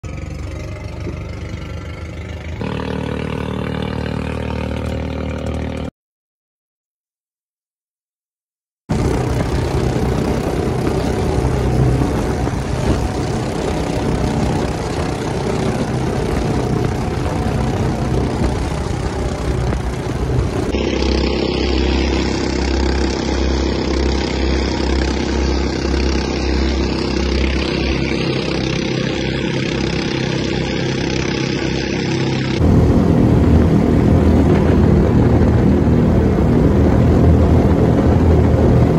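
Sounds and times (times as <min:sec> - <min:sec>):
racing boat engines droning: 0:00.0 - 0:05.9, 0:08.9 - 0:38.9
wind: 0:00.0 - 0:05.9, 0:08.9 - 0:38.9.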